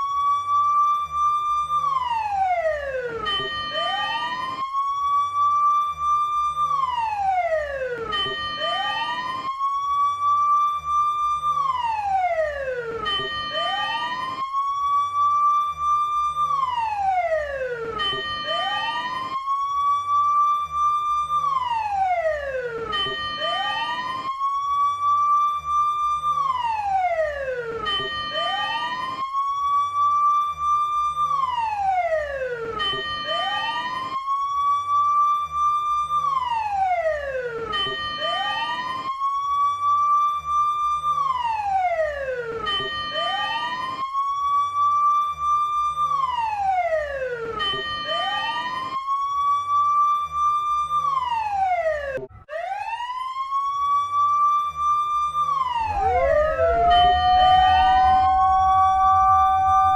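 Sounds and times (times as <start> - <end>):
fire engine siren wailing: 0.0 - 59.9.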